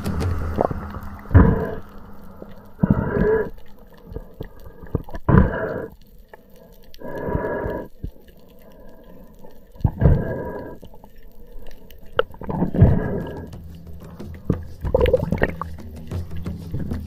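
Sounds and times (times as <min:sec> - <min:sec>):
low steady hum: 0:00.0 - 0:17.0
water gurgling and sloshing: 0:00.0 - 0:17.0.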